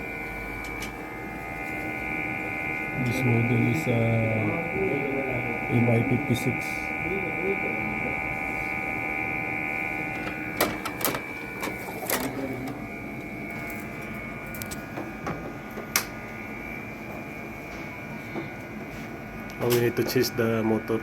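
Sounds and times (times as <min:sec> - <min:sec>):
fan motor whining: 0:00.0 - 0:21.0.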